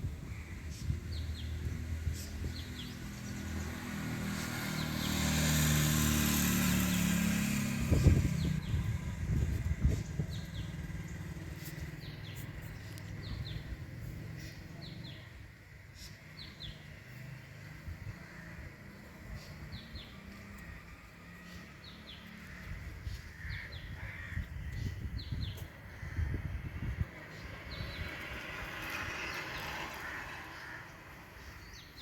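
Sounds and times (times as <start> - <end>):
low traffic rumble: 0.0 - 32.0.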